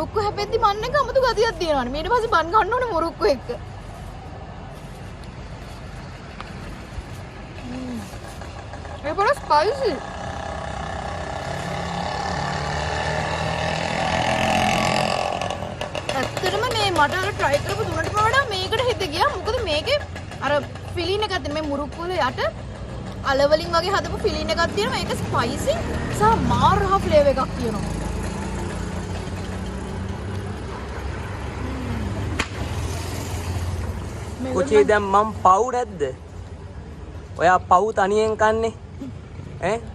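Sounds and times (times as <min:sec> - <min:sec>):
vehicle engine passing: 0:00.0 - 0:35.6
street noise: 0:00.0 - 0:39.9.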